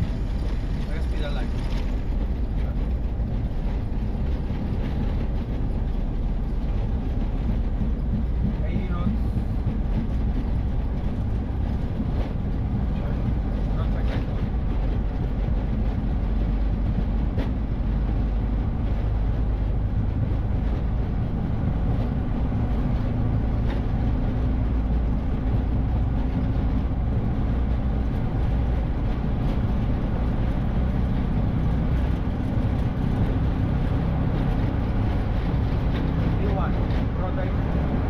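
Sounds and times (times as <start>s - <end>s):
jet engines at takeoff thrust: 0.0s - 38.0s.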